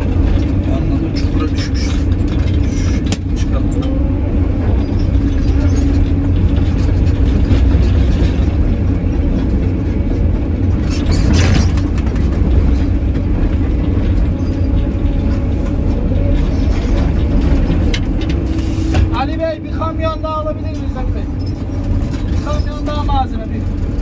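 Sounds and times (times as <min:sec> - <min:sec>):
excavator diesel and hydraulics: 0:00.0 - 0:24.0.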